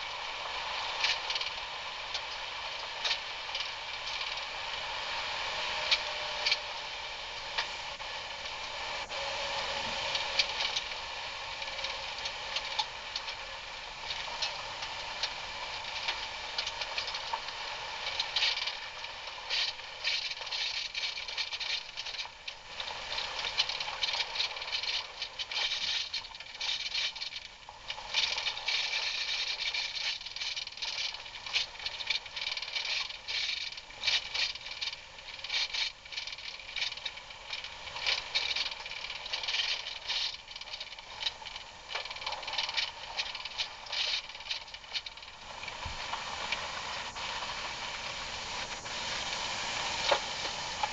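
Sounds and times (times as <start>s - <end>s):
off-road vehicle running: 0.0s - 50.9s.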